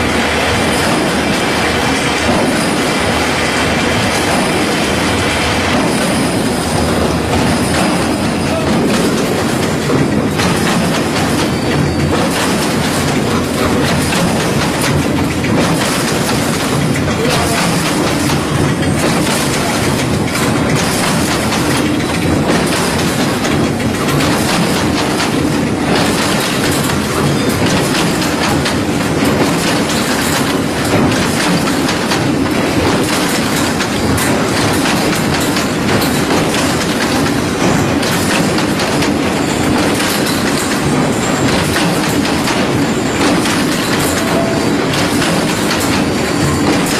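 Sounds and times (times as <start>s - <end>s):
wire mesh weaving machine clatter: 0.0s - 46.9s.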